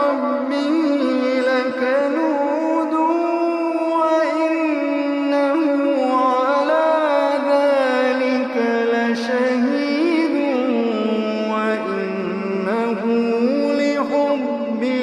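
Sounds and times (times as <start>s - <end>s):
person chanting recitation: 0.0s - 15.0s.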